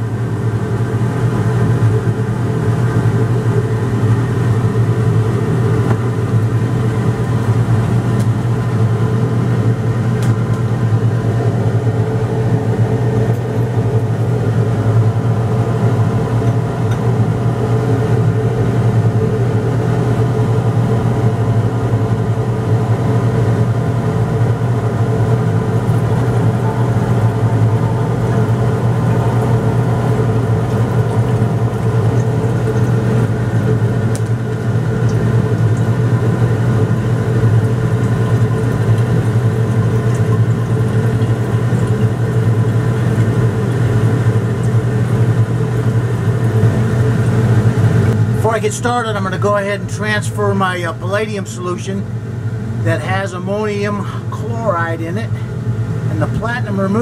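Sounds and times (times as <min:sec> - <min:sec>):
ventilation fan motor hum: 0:00.0 - 0:57.0.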